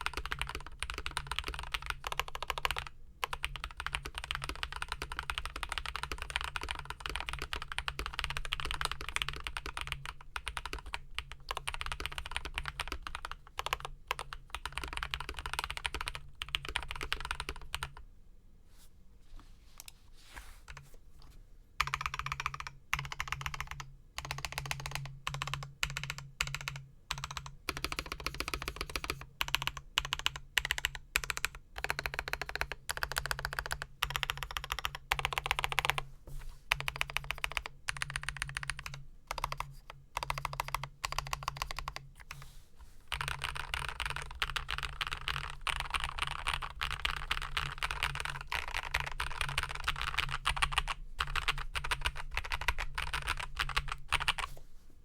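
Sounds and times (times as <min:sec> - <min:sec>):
mechanical keyboard typing: 0:00.0 - 0:18.0, 0:21.8 - 0:36.0, 0:36.7 - 0:42.3, 0:43.1 - 0:54.5.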